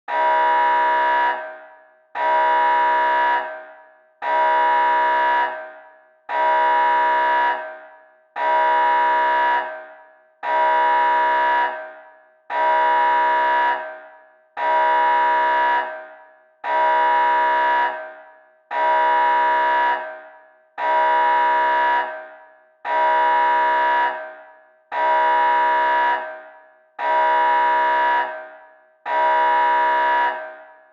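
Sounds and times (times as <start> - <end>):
alarm horn blaring: 0.1 - 20.2, 20.8 - 26.4, 27.0 - 30.7.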